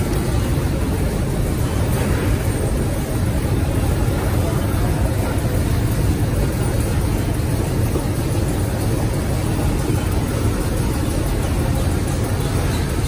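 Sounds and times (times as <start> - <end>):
machine mechanical noise: 0.0 - 13.0.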